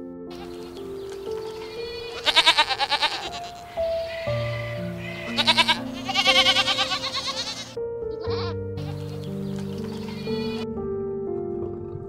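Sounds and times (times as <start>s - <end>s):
soft background music: 0.0s - 12.0s
goats bleating: 0.4s - 0.8s, 1.4s - 10.6s.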